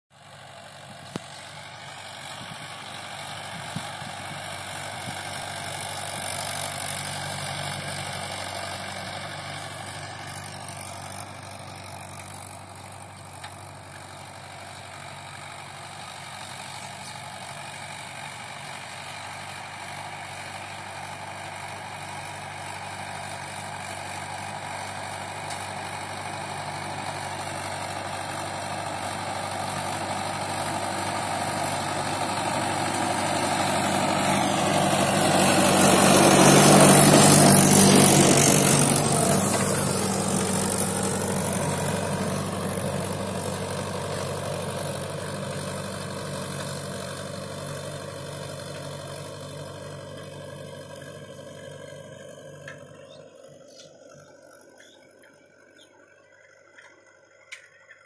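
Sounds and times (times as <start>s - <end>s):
tractor engine running: 0.2s - 58.0s.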